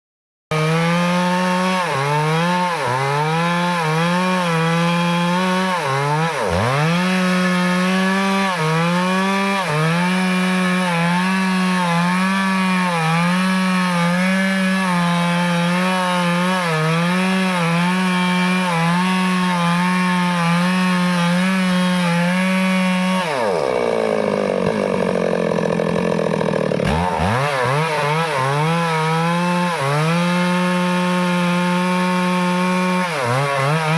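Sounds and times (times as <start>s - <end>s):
chainsaw cutting wood: 0.5s - 33.9s.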